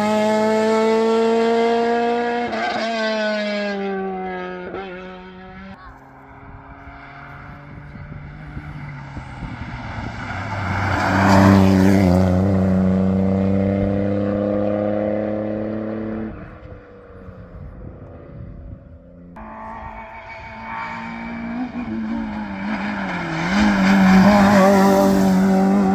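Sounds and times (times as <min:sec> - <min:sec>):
rally car passing at speed: 0:00.0 - 0:25.9.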